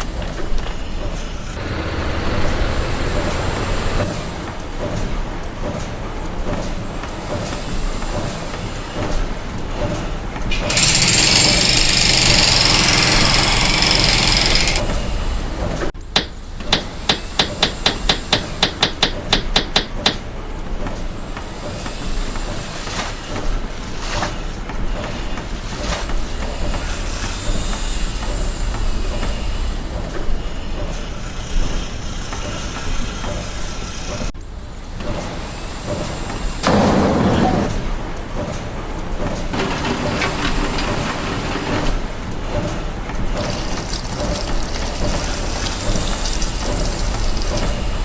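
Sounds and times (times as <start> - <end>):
scattered knocks: 0.0 - 34.3, 34.9 - 48.0
loud hissing machine noise: 0.0 - 34.4, 35.0 - 48.0
rapid hammer-like strikes: 0.0 - 48.0
work-site noise: 0.0 - 48.0.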